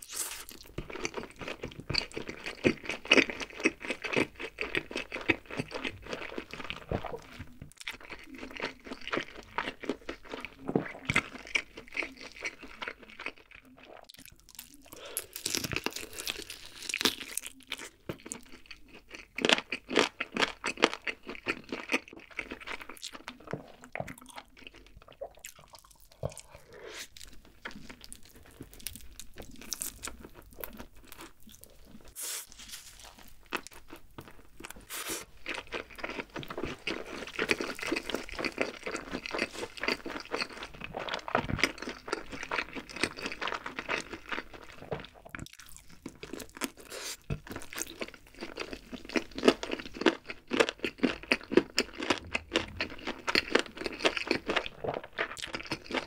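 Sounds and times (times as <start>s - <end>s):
eating crunchy chicken: 0.0s - 56.0s.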